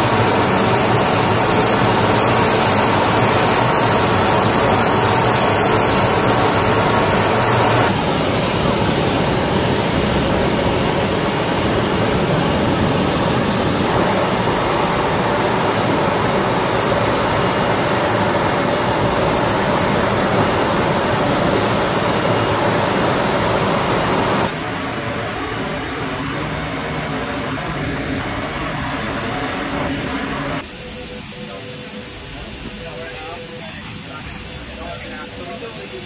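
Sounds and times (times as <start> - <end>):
jet aircraft engines running: 0.0 - 36.0.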